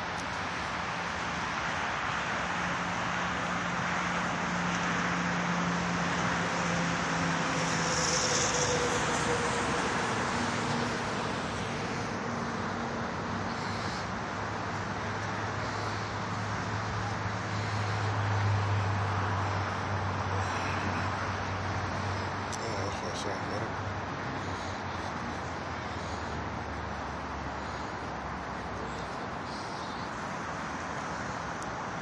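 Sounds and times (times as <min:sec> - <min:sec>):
car engines idling: 0:00.0 - 0:32.0
traffic hiss: 0:00.0 - 0:32.0.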